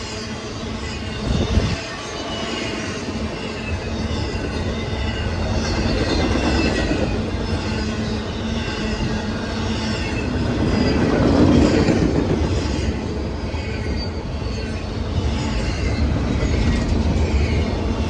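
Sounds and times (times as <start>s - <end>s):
high squealing wheels: 0.0s - 18.0s
train wheels rumbling on rails: 0.0s - 18.0s.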